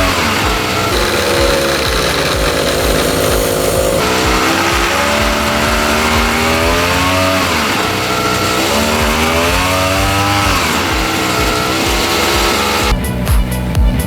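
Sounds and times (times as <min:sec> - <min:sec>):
brush cutter engine revving: 0:00.0 - 0:13.0.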